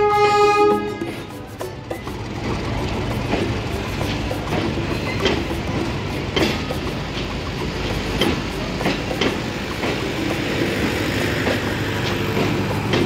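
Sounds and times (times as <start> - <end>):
train coaches rumbling past: 0.0 - 13.0
wheels clicking over rail joints: 0.0 - 13.0.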